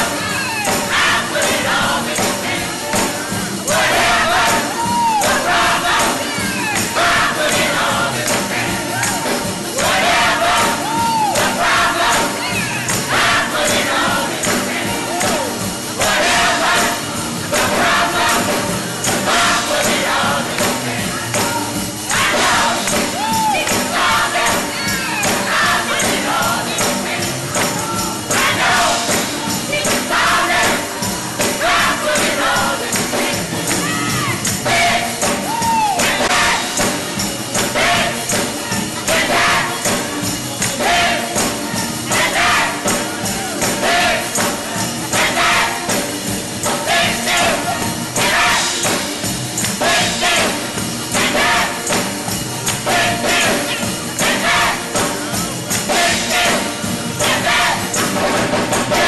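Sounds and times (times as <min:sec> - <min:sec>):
choir singing gospel music: 0:00.0 - 0:59.0
congregation voices: 0:00.0 - 0:59.0
tambourine beat: 0:00.0 - 0:59.0.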